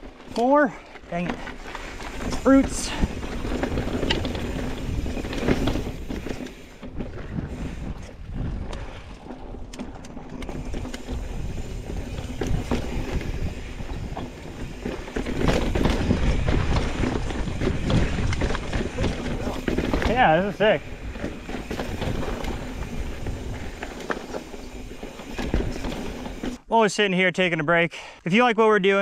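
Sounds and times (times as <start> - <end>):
bike tyres rattling over ground: 0.0 - 26.6
wind rumbling on microphone: 1.6 - 26.6.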